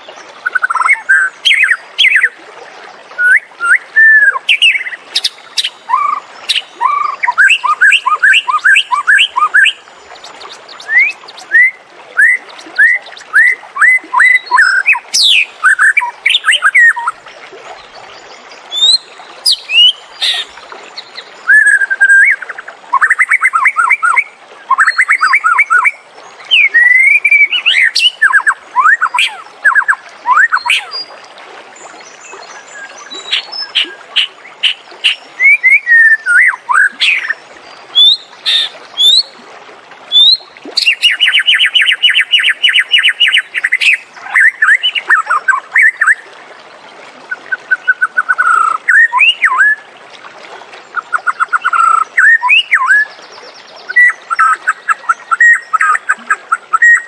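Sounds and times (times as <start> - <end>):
bird singing whistles and trills: 0.4 - 2.4, 3.2 - 17.2, 18.7 - 31.1, 32.4 - 39.3, 40.1 - 46.2, 47.3 - 49.9, 51.0 - 53.2, 53.8 - 57.0.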